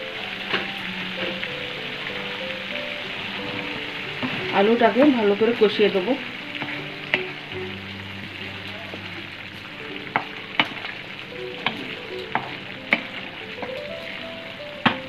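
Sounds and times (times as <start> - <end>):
potatoes sizzling in a pan: 0.0 - 15.0.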